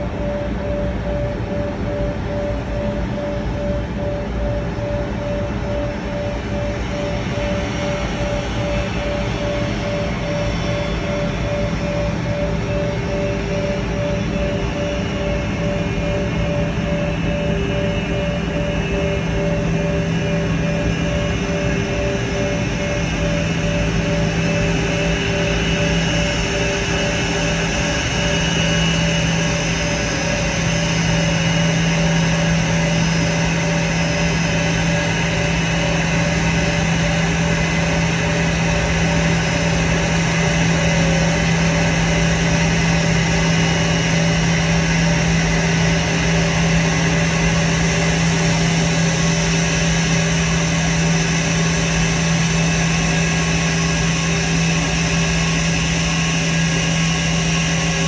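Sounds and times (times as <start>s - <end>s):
jet engines at taxi power: 0.0s - 58.0s.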